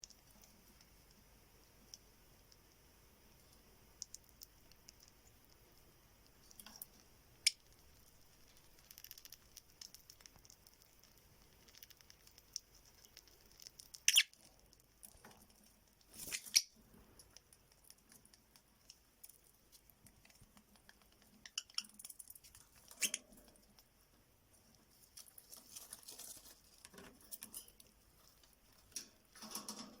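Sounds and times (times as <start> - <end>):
birds scratching and clicking: 3.4 - 30.0.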